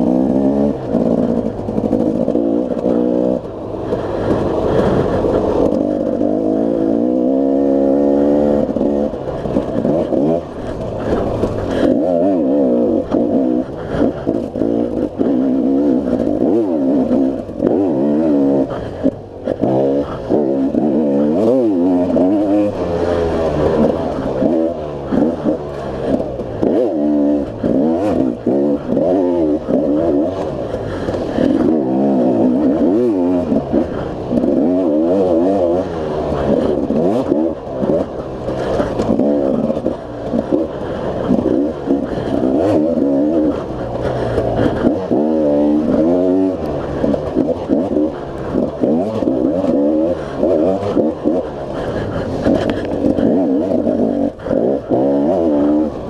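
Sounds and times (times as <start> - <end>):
knocks and rattles over ground: 0.0 - 56.0
motorcycle engine revving: 0.0 - 56.0.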